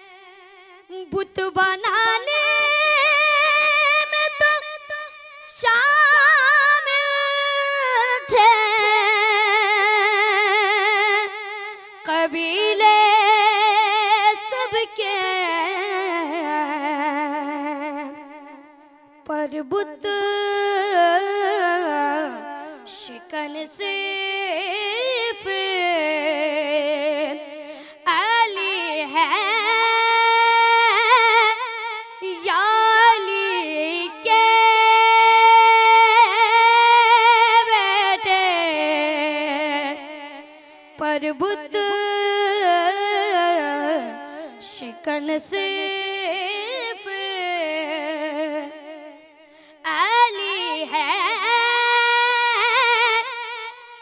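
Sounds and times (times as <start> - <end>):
boy singing into a microphone: 0.0 - 54.0.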